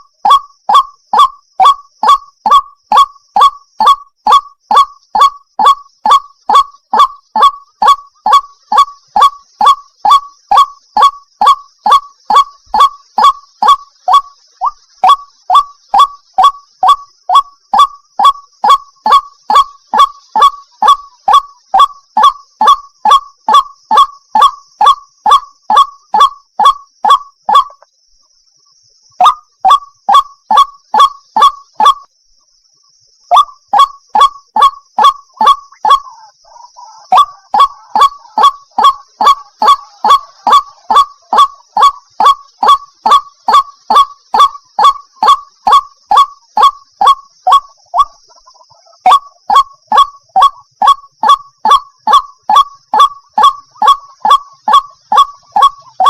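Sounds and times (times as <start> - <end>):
waterhen calling: 0.0 - 27.8, 29.2 - 32.0, 33.3 - 56.0.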